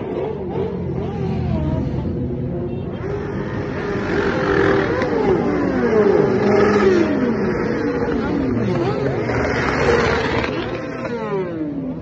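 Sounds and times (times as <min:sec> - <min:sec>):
motorcycles passing and revving: 0:00.0 - 0:12.0.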